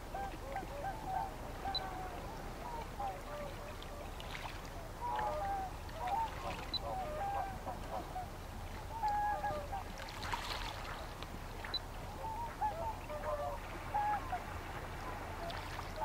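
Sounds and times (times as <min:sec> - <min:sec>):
waterbirds calling: 0:00.0 - 0:16.0.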